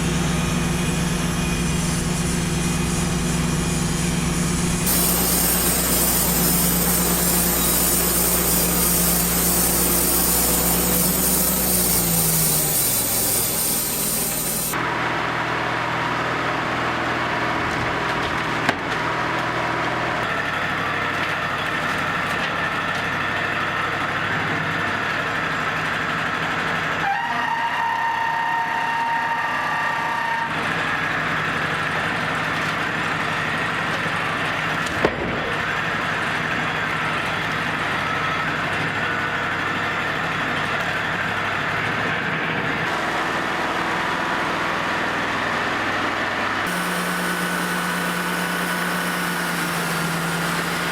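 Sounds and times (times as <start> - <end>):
sawmill engine and blade drone: 0.0 - 50.9.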